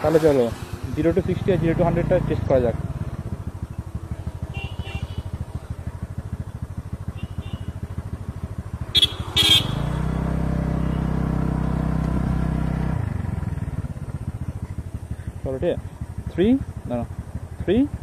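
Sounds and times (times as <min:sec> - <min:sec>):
scooter engine idling: 0:00.7 - 0:18.0.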